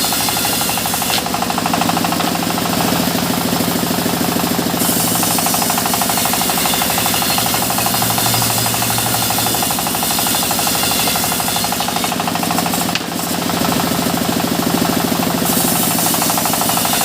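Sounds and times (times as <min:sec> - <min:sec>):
saw blade cutting wood hiss: 0:00.0 - 0:13.7, 0:14.6 - 0:17.0
sawmill saw running: 0:00.0 - 0:17.0.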